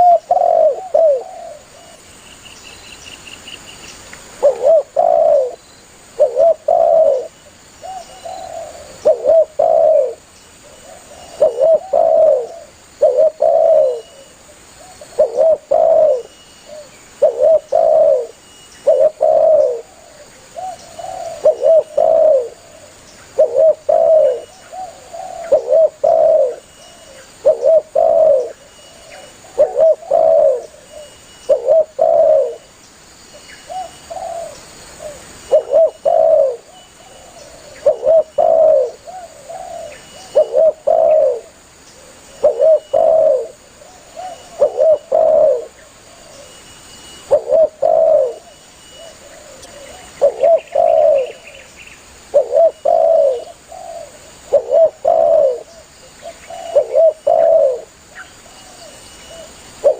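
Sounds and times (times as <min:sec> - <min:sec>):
dove cooing: 0:00.0 - 0:02.0, 0:04.4 - 0:32.7, 0:33.3 - 0:59.9.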